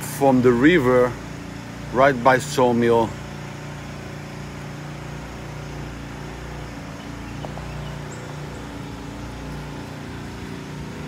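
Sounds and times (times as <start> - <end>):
low engine hum: 0.0 - 11.0
outdoor background noise: 0.0 - 11.0.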